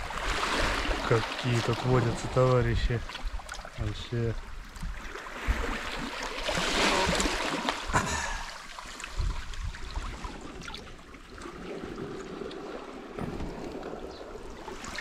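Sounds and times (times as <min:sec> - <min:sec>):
water lapping among stones: 0:00.0 - 0:15.0.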